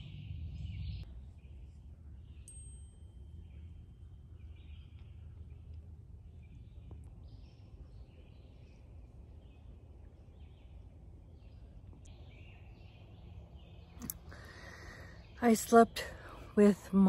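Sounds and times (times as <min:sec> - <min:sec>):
distant birdsong: 0:00.0 - 0:17.0
low steady rumble: 0:00.0 - 0:17.0.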